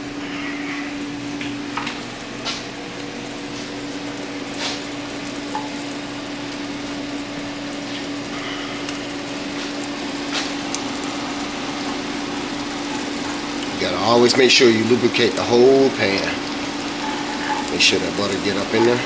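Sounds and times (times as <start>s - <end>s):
food sizzling in frying pan: 0.2s - 19.0s.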